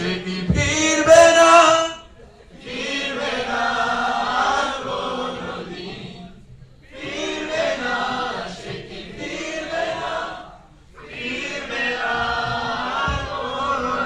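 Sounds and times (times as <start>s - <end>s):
group singing in chorus: 0.0s - 14.0s.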